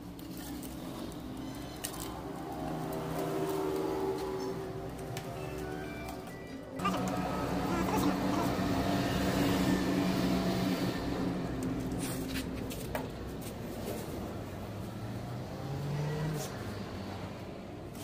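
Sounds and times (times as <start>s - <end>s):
engine running with low hum: 0.0s - 18.0s.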